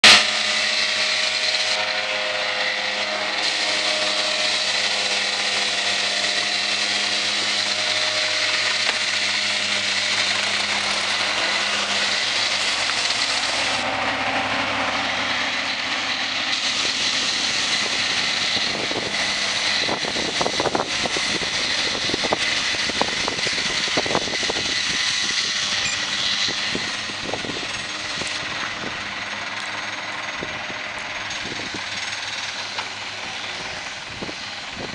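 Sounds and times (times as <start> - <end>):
tractor diesel engines: 0.0 - 34.9.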